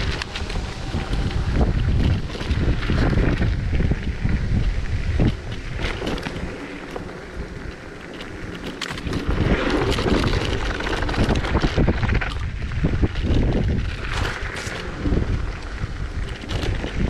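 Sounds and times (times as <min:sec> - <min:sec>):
rattling clicks: 0:00.0 - 0:17.0
tyre rumble on gravel: 0:00.0 - 0:17.0
wind buffeting microphone: 0:00.0 - 0:17.0.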